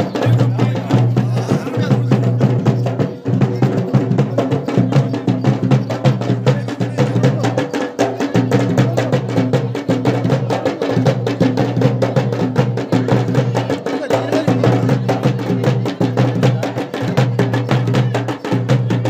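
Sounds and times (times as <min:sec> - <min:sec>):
fast drumming: 0:00.0 - 0:19.0.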